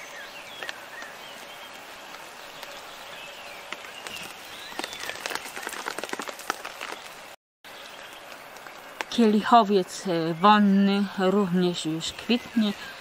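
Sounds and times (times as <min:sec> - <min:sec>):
rain falling on foliage: 0:00.0 - 0:13.0.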